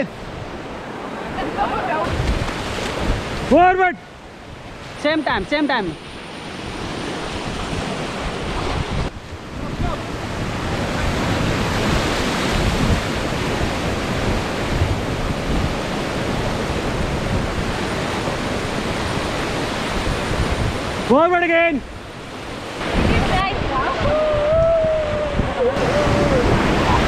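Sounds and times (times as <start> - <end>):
wind buffeting microphone: 0.0 - 5.0, 6.1 - 21.1, 21.9 - 27.0
river water rushing: 0.0 - 27.0.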